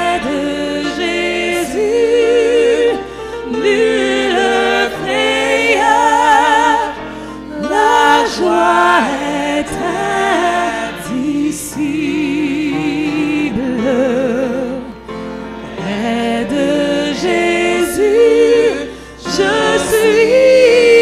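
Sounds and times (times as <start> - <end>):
small group singing a hymn: 0.0 - 21.0.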